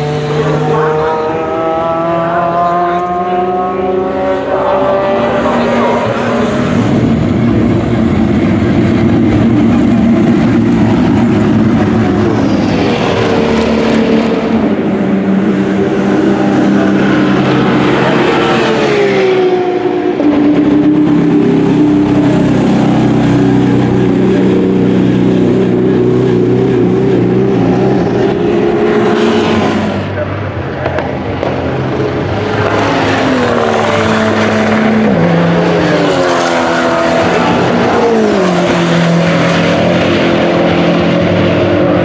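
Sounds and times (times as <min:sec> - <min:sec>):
race car engines passing: 0:00.0 - 0:42.0.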